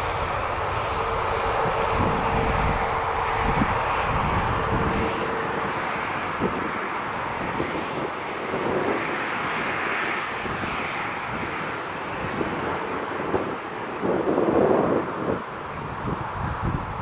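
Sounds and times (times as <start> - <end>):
aircraft engine rushing: 0.0 - 17.0
wind buffeting microphone: 0.0 - 17.0.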